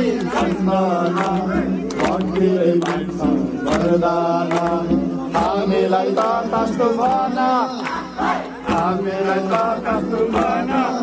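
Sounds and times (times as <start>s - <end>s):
crowd singing devotional song: 0.0s - 11.0s.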